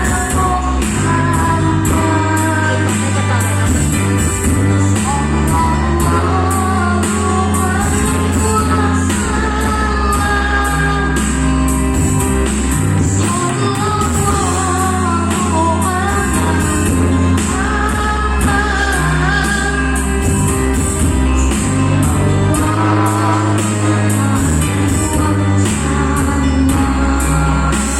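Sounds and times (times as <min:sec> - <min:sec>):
backing track with bass and beat: 0:00.0 - 0:27.9.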